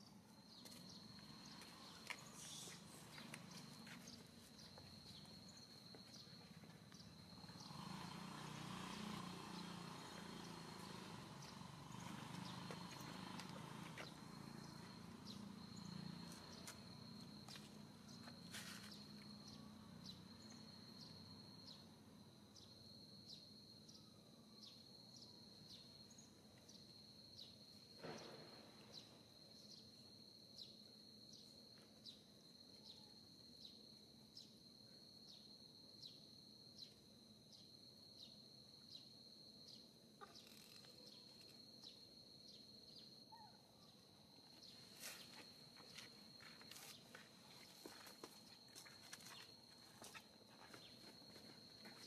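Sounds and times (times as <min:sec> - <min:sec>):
insect high-pitched drone: 0:00.0 - 0:52.0.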